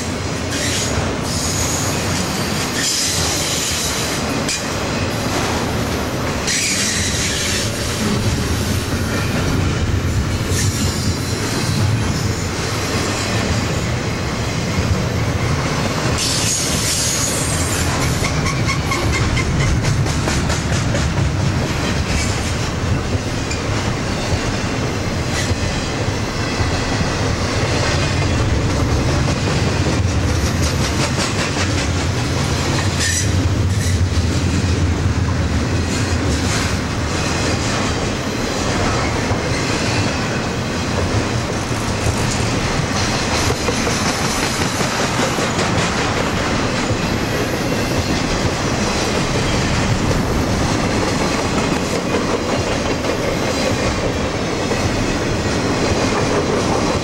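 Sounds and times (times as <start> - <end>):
freight train rumbling past: 0.0 - 57.0
steel wheels clacking on rails: 0.0 - 57.0.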